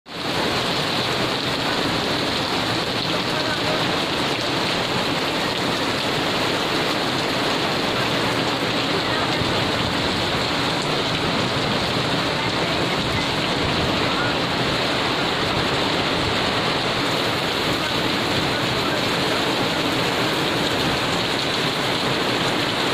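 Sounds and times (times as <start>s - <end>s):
heavy rain on paving stones: 0.1s - 22.9s.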